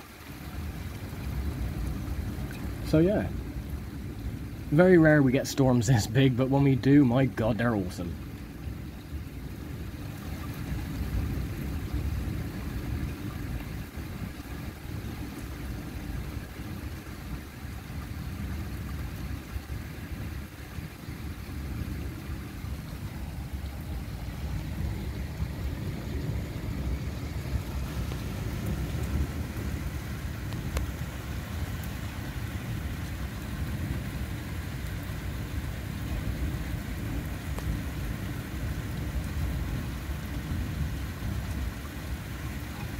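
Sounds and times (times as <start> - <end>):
distant rolling thunder: 8.2 - 42.9.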